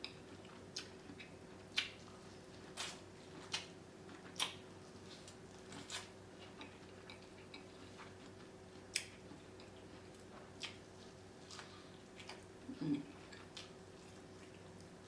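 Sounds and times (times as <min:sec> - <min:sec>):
shellfish peeling and chewing: 0:00.0 - 0:15.0.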